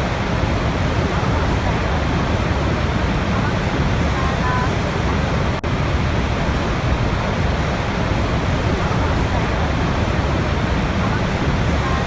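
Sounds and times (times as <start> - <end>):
large waterfall rushing: 0.0 - 12.0.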